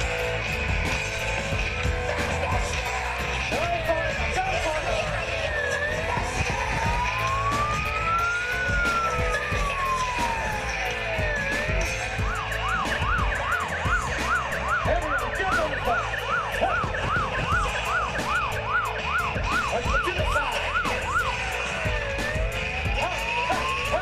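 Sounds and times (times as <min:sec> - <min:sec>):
emergency vehicle siren: 0:00.0 - 0:24.0.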